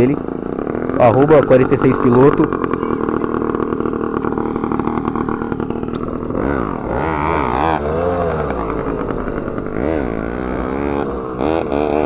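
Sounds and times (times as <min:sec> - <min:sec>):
small engines idling and revving: 0:00.0 - 0:12.0.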